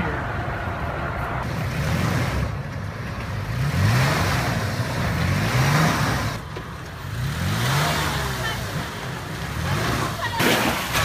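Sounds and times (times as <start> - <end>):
engine revving: 1.4 - 11.0.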